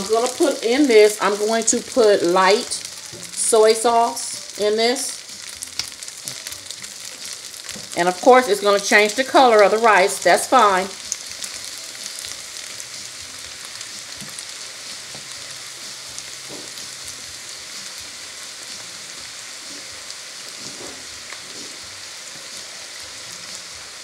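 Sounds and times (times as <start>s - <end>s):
fried rice sizzling in a frying pan: 0.0s - 24.0s.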